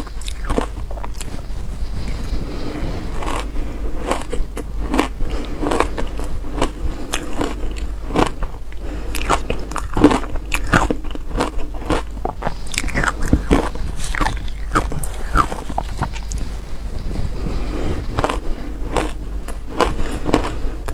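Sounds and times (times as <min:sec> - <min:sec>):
shaved ice crunching while chewed: 0:00.0 - 0:16.6, 0:17.3 - 0:20.9.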